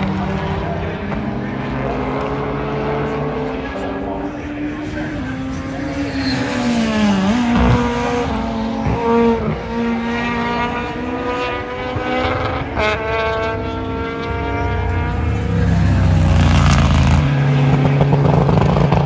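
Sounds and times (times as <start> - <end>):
engine crack: 0.0 - 19.0
rally car engines revving: 0.0 - 19.0.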